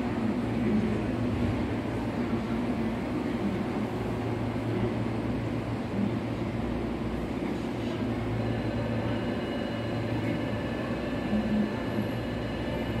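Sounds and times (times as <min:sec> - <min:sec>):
electric train hum: 0:00.0 - 0:13.0
faint high whine: 0:00.0 - 0:13.0.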